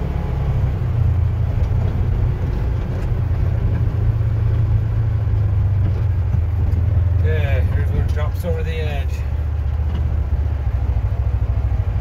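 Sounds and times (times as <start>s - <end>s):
road and wind noise: 0.0s - 12.0s
vehicle engine rumble: 0.0s - 12.0s.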